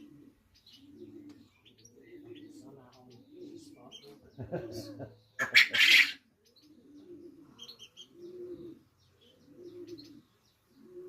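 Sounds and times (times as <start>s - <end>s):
pigeons cooing: 0.0s - 11.0s
small birds chirping: 0.0s - 11.0s.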